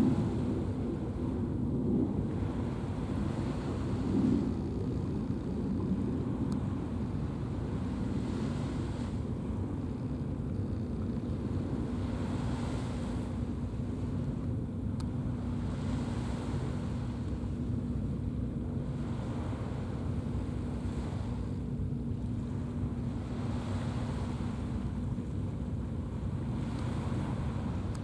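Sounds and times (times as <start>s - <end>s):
low boat engine drone: 0.0s - 28.0s
sea water washing: 0.0s - 28.0s
wind buffeting microphone: 0.0s - 28.0s.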